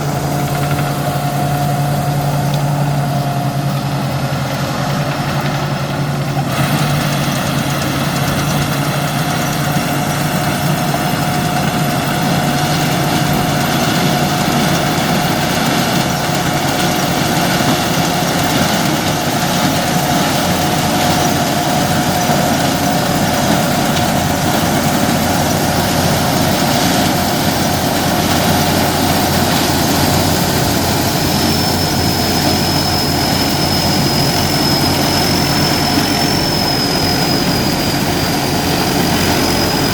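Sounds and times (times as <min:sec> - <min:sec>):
higher whine: 0:00.0 - 0:16.7, 0:17.6 - 0:39.9
corn sheller machine droning: 0:00.0 - 0:39.9
steady machine whine: 0:00.0 - 0:39.9.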